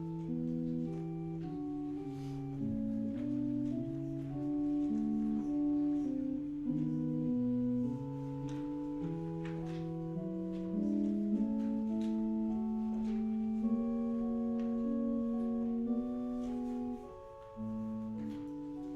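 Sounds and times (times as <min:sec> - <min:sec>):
church organ playing chords: 0:00.0 - 0:18.9.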